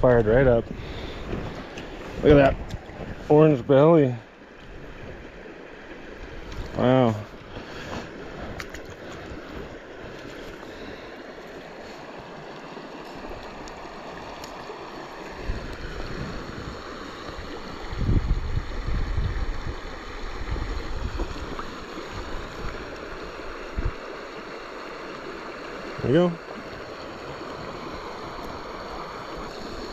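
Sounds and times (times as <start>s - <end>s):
creek water running: 0.0s - 29.9s.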